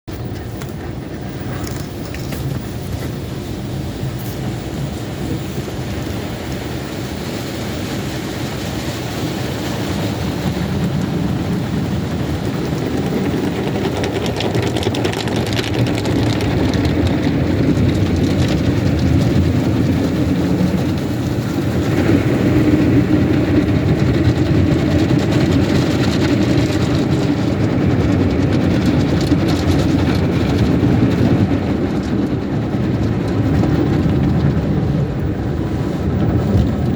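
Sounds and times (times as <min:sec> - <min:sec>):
car wash water spray: 0:00.1 - 0:36.9.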